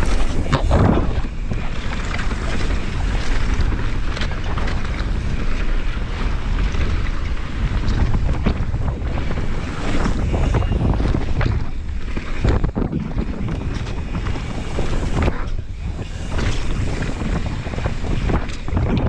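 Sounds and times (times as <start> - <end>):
bike clicks and rattles: 0.0 - 19.0
mountain bike rumble on dirt: 0.0 - 19.0
wind buffeting microphone: 0.0 - 19.0.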